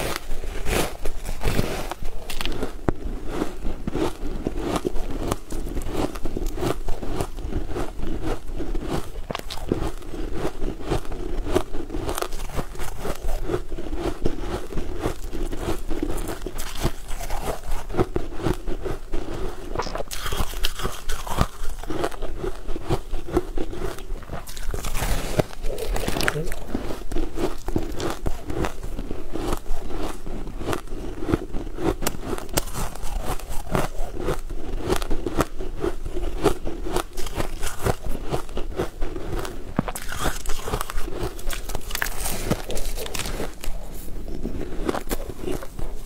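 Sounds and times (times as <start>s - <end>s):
chewing cake: 0.0s - 46.0s
crackly mouth clicks: 1.5s - 46.0s.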